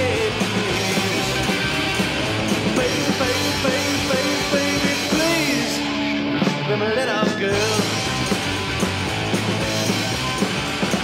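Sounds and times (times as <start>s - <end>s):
bass guitar: 0.0s - 11.0s
drums playing: 0.0s - 11.0s
electric guitars: 0.0s - 11.0s
pitch-bending lead guitar line: 0.0s - 11.0s.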